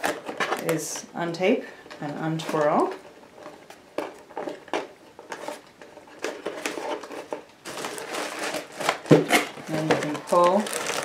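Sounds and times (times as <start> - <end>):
packing tape crackling: 0.0 - 1.1, 1.8 - 11.0.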